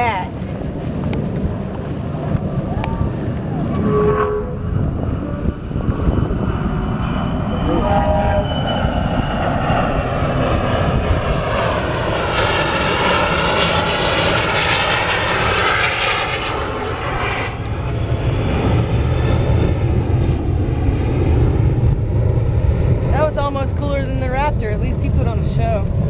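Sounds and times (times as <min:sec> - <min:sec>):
high whine: 0:00.0 - 0:26.0
jet engines flying past: 0:00.0 - 0:26.0
low rumble: 0:00.0 - 0:26.0.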